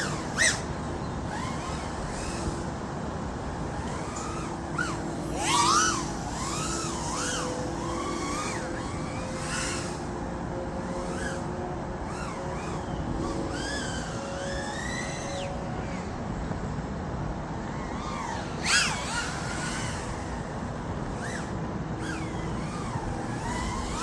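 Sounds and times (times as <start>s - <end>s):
quadcopter motor and prop whine: 0.0s - 24.0s.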